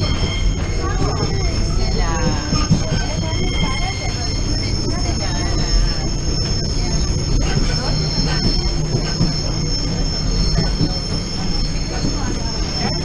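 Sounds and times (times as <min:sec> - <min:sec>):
high whine: 0:00.0 - 0:13.0
train rumbling: 0:00.0 - 0:13.0.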